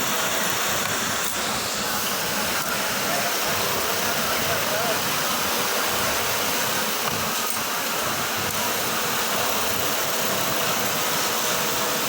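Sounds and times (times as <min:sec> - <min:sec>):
sewing machinery running: 0:00.0 - 0:12.0.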